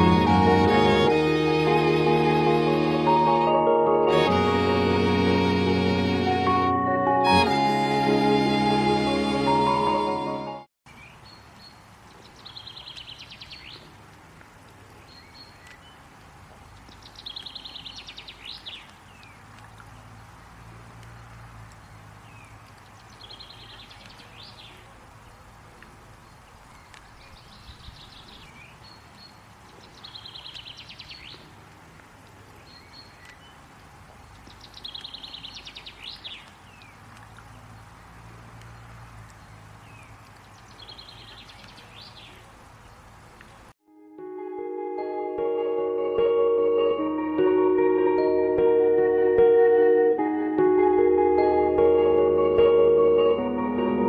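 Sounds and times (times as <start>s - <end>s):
faint open-air background noise: 7.3s - 54.0s.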